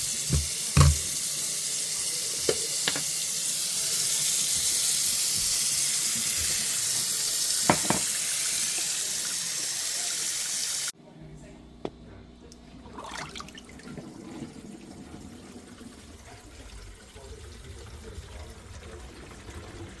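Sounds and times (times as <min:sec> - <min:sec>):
faucet water running into sink: 0:00.0 - 0:10.9, 0:12.9 - 0:20.0.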